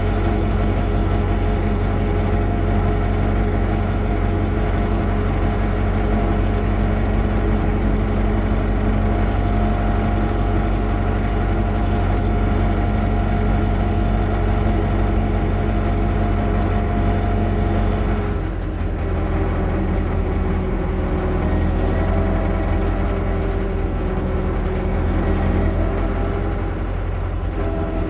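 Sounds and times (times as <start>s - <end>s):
tractor diesel engine droning: 0.0s - 28.0s.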